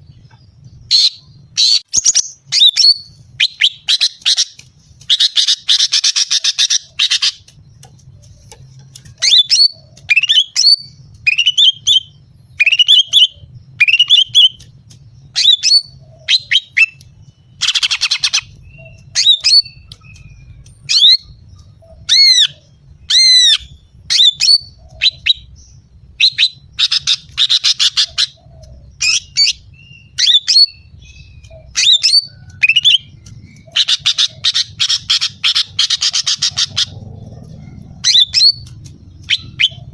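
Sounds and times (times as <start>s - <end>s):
buzzy chattering rattles: 0.0s - 29.8s, 30.7s - 39.9s
bird sharp sweeping calls: 0.1s - 39.9s.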